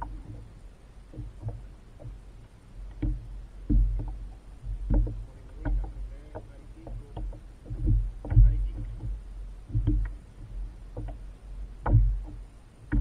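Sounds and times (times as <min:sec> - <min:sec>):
low steady rumble: 0:00.0 - 0:13.0
water slapping against kayak hull: 0:00.0 - 0:13.0.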